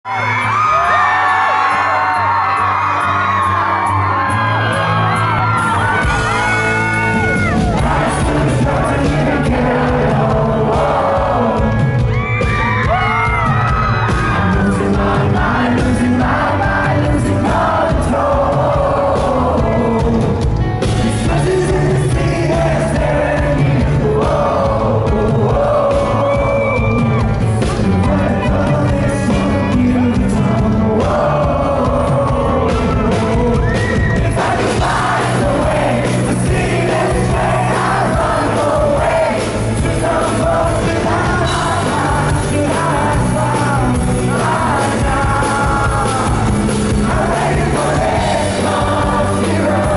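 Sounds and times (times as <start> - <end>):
audience yelling and singing along: 0.0 - 49.9
band playing pop-rock: 0.1 - 49.9
man singing lead vocal: 0.3 - 49.9.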